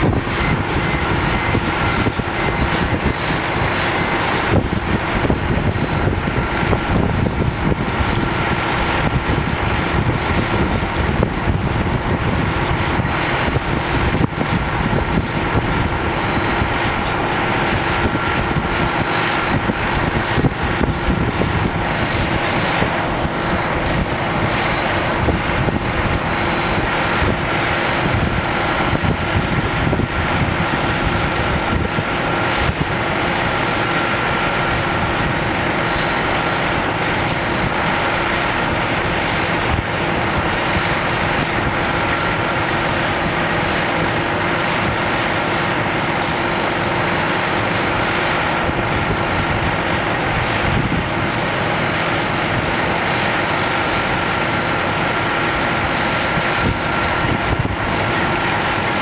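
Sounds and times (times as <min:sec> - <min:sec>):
jet airliner turbine noise: 0:00.0 - 0:59.0
wind buffeting the microphone: 0:00.0 - 0:59.0.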